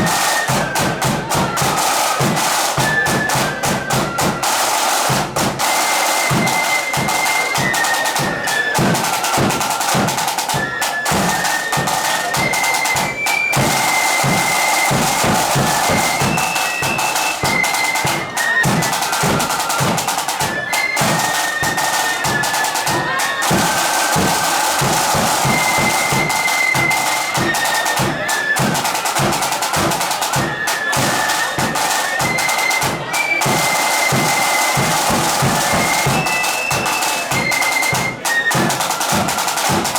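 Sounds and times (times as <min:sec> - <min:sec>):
bass drum beating march rhythm: 0:00.0 - 0:39.9
massed flutes playing melody: 0:00.0 - 0:39.9
snare drums: 0:00.0 - 0:39.9.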